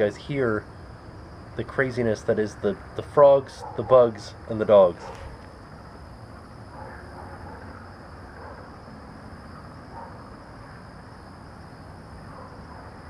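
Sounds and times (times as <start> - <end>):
insects and frogs chorus: 0.0 - 13.0
low background rumble: 0.0 - 13.0.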